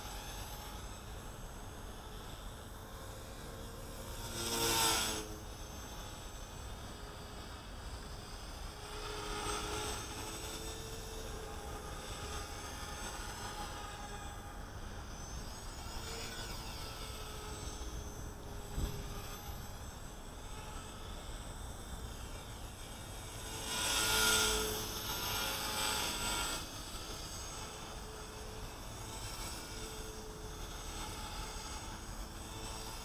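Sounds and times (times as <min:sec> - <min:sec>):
electric motor whine: 0:00.0 - 0:33.0
rotor blades buzzing: 0:00.0 - 0:33.0.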